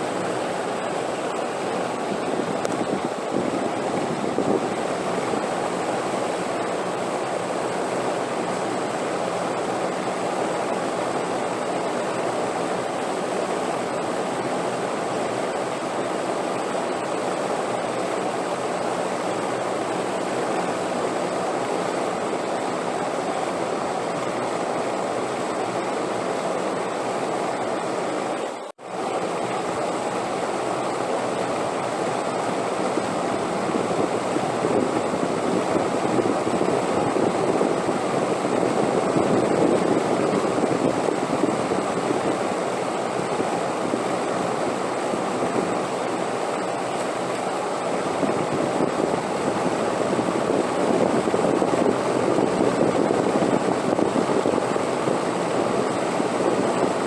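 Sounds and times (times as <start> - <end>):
steady wind noise: 0.0 - 57.0.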